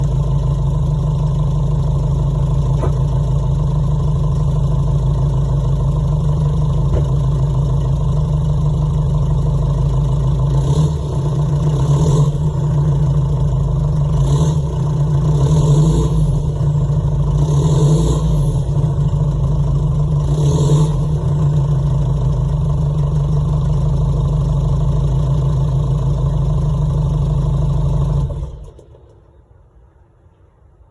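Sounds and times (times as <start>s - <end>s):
diesel engine idling and revving: 0.0s - 29.3s.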